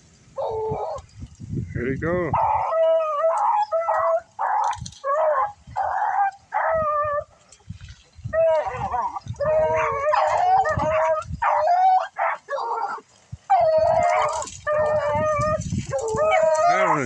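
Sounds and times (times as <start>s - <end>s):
hounds baying: 2.3s - 7.4s, 8.3s - 17.0s.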